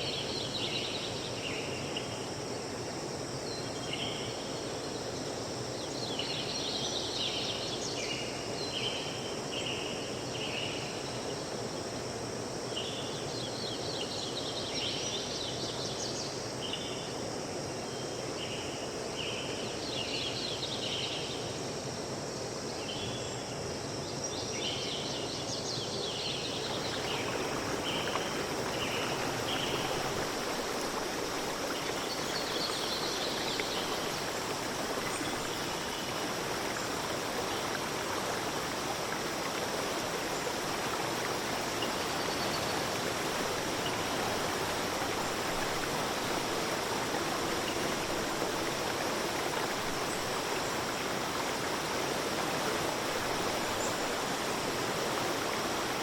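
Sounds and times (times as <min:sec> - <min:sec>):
noisy background hiss: 0:00.0 - 0:56.0.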